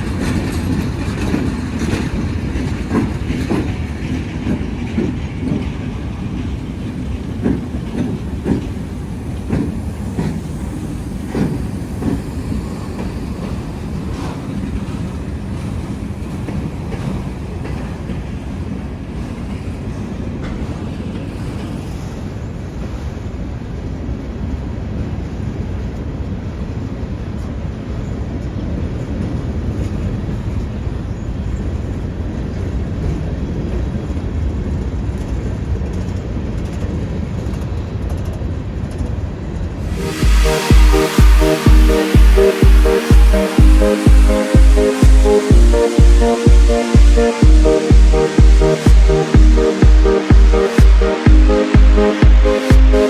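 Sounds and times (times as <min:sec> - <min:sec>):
freight train rumble: 0:00.0 - 0:53.0.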